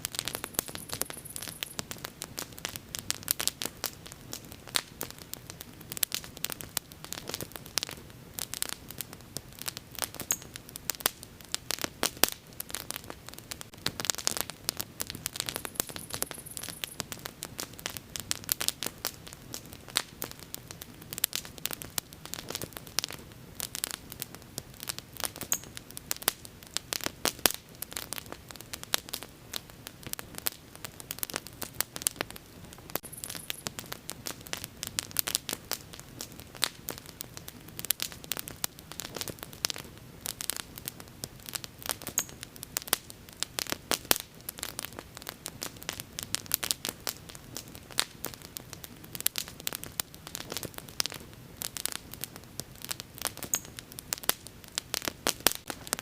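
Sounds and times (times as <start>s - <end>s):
bonfire crackling and popping: 0.0s - 56.0s
soft steady hiss: 0.0s - 56.0s.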